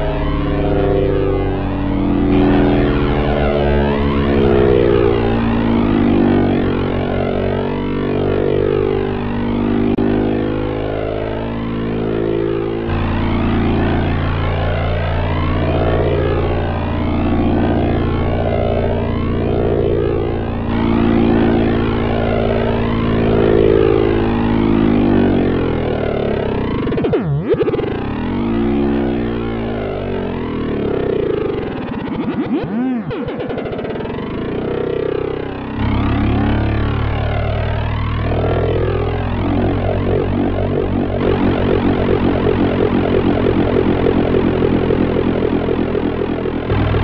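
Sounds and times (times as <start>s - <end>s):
synth drone: 0.0s - 47.0s.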